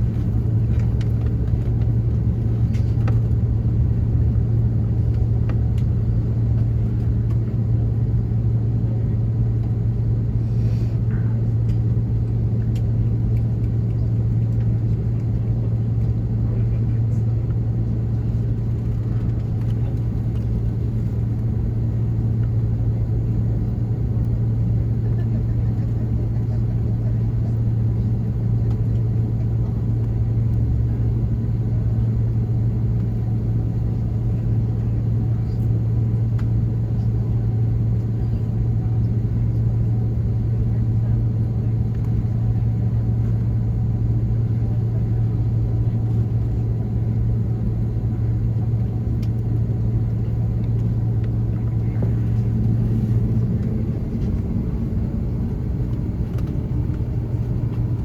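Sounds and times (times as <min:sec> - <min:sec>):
aircraft engine hum: 0:00.0 - 0:58.0.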